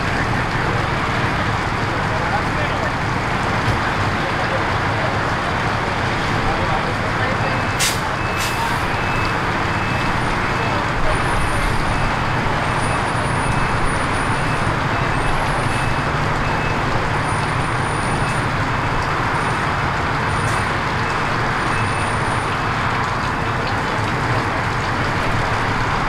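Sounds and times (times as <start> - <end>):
road traffic rumble: 0.0 - 26.0
vehicle engines idling: 0.0 - 26.0.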